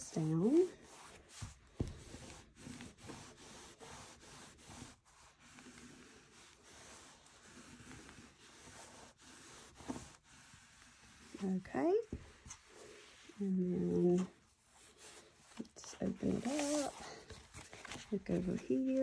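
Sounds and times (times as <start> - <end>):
rubbing strokes on paper: 0.0 - 19.0.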